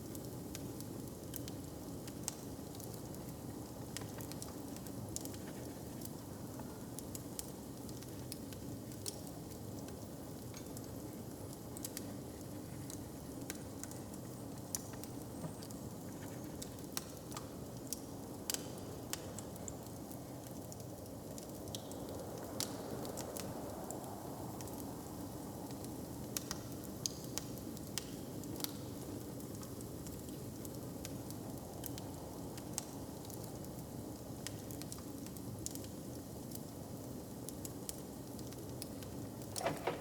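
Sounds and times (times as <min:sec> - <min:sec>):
wood fire crackling and popping: 0:00.0 - 0:24.0, 0:25.4 - 0:40.0.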